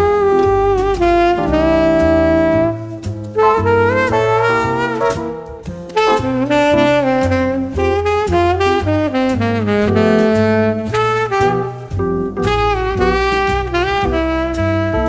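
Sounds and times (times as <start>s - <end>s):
instrumental jazz music: 0.0s - 15.0s.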